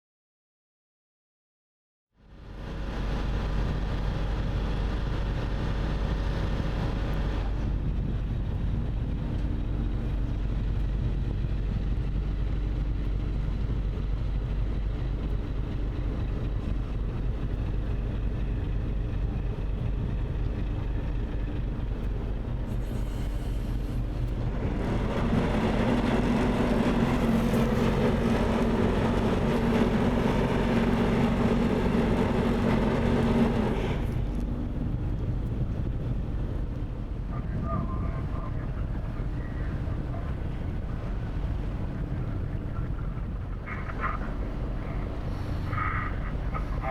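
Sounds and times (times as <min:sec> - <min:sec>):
engine running: 0:02.2 - 0:46.9.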